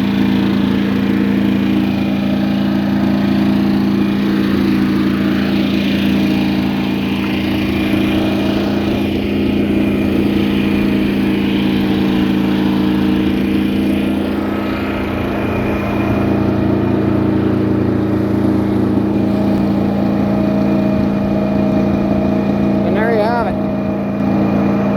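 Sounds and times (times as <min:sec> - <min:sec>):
sawmill engine running: 0:00.0 - 0:24.9.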